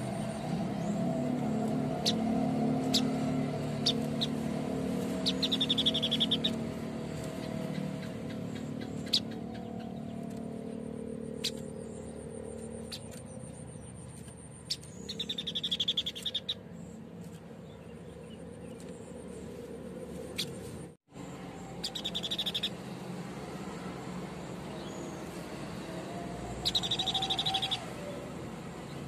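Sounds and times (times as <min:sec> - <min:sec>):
bird high rapid trills: 0:00.0 - 0:17.1, 0:17.9 - 0:29.0.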